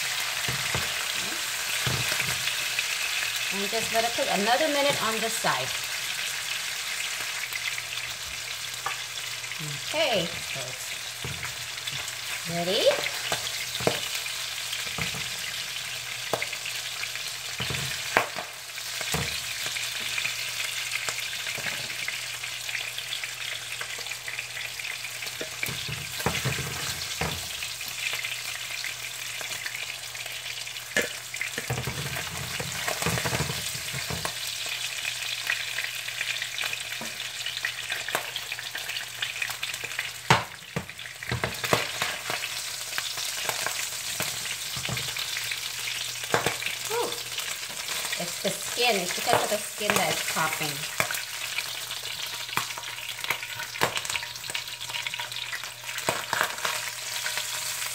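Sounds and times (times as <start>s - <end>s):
fish sizzling in oil: 0.0s - 57.9s
pops and crackles of frying: 0.0s - 57.9s.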